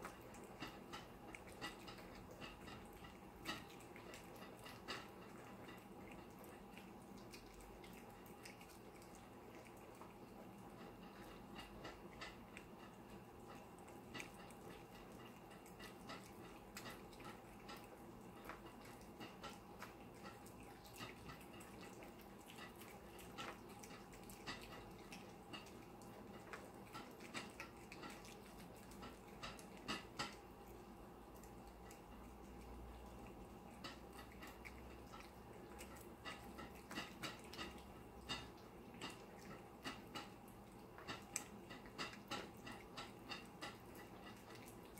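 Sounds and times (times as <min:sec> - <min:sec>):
cats chewing and licking: 0:00.0 - 0:44.9
faint steady hum: 0:00.0 - 0:44.9.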